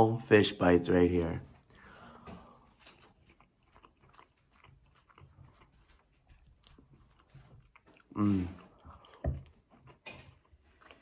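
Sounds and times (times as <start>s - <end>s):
faint chewing: 1.4s - 11.0s.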